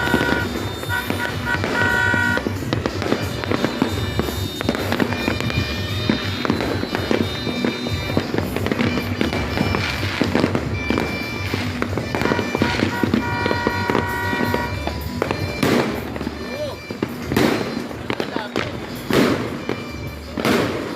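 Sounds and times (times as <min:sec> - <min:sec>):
fireworks popping and banging: 0:00.0 - 0:20.9
music playing: 0:00.0 - 0:20.9.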